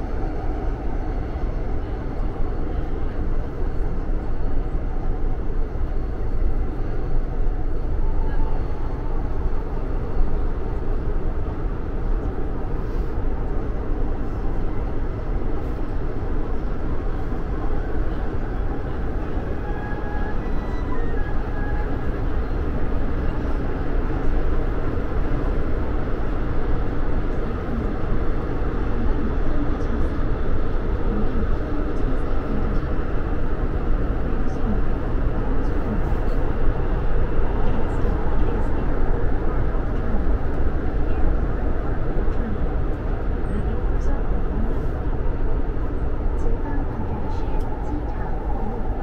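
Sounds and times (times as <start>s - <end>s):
train rumbling on rails: 0.0s - 49.0s.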